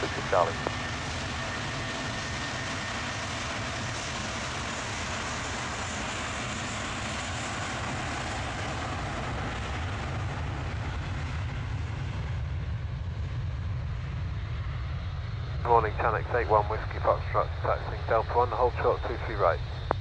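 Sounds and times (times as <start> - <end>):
aircraft engines roaring: 0.0 - 20.0.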